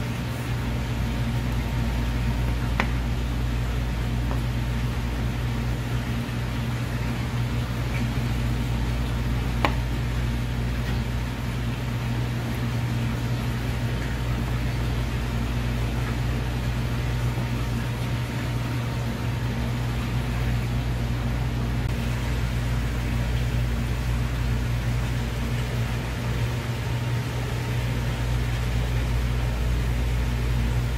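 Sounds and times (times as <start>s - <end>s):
low machine hum: 0.0s - 30.9s.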